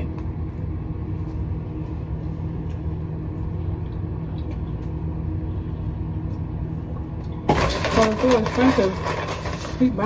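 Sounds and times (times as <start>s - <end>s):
microwave oven humming: 0.0s - 10.0s.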